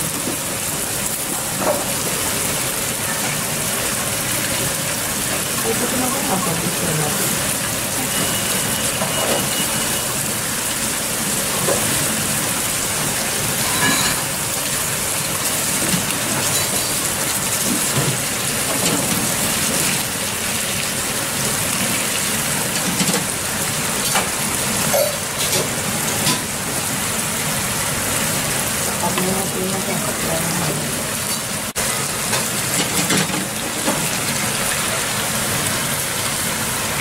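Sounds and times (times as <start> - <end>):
meat sizzling in sauce: 0.0 - 37.0.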